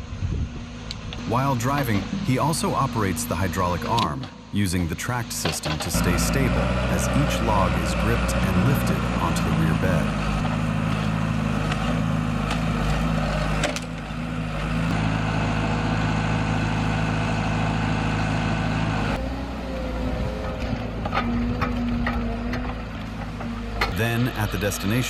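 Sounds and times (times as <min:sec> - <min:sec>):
tractor engine running: 0:00.5 - 0:25.0.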